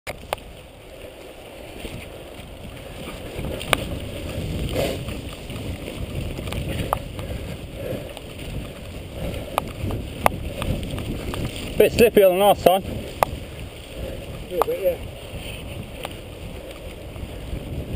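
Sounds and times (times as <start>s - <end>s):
bike rattling over bumps: 0.1s - 17.9s
bike tyre rumble: 0.1s - 17.9s
wind noise: 0.1s - 17.9s.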